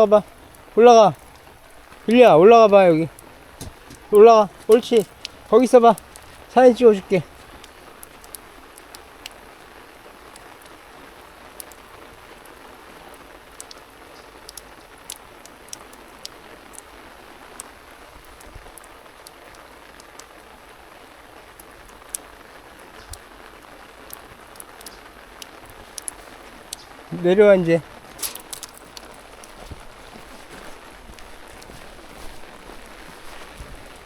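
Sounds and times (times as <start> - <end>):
drops ticking close by: 0.0 - 20.4, 21.4 - 34.0
light rain: 0.0 - 34.0.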